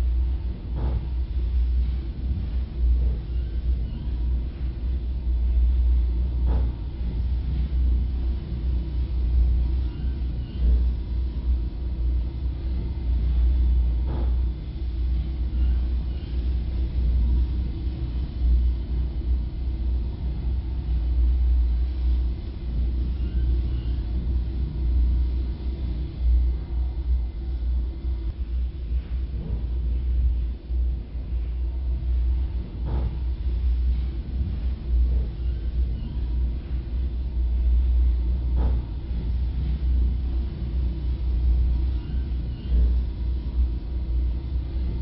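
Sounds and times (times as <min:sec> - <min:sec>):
loud uneven low rumble: 0:00.0 - 0:45.0.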